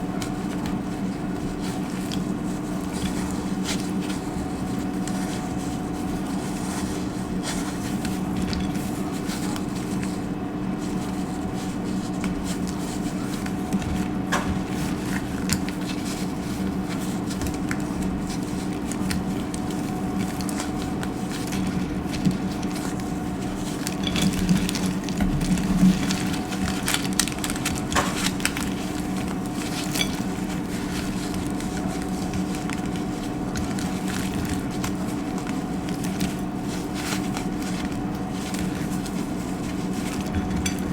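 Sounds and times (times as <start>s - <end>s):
soap crackling and crunching: 0.0s - 40.9s.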